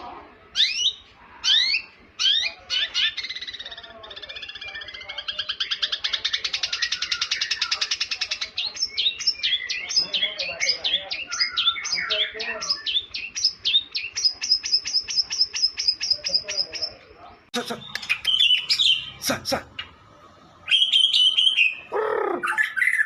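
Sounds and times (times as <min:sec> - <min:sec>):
songbird singing: 0:00.5 - 0:23.0.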